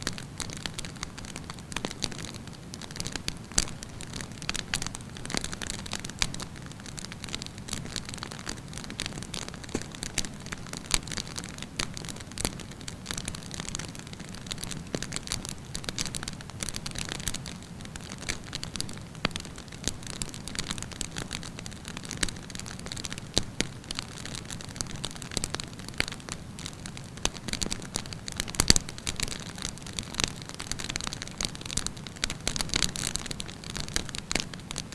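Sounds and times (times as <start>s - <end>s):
campfire crackling and popping: 0.0s - 34.9s
low rumble of flame: 0.0s - 34.9s.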